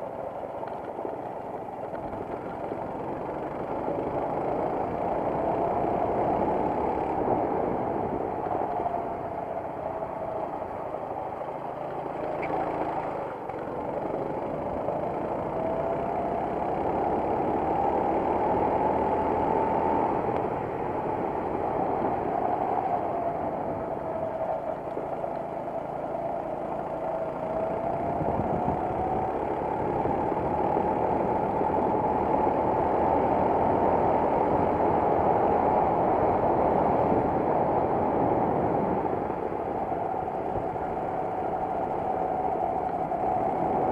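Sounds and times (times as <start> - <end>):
kart engine revving: 1.8 - 43.9.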